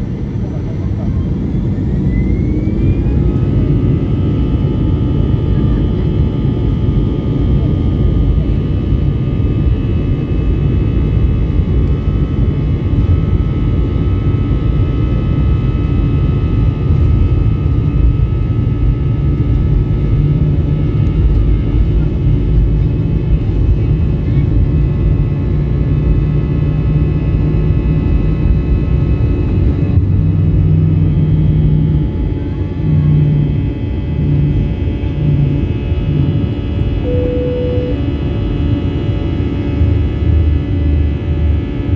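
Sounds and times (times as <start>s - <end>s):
jet engine low rumble: 0.0s - 41.9s
jet engine whines: 0.0s - 41.9s.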